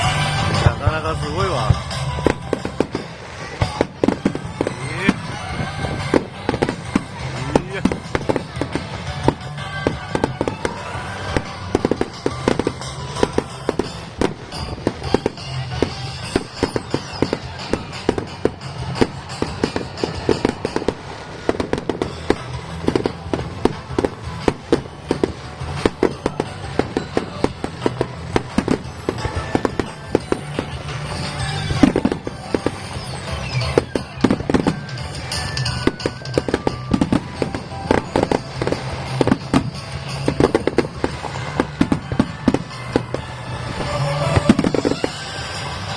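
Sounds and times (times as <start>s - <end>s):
fireworks crackling and popping: 0.0s - 45.9s
music playing: 0.0s - 45.9s.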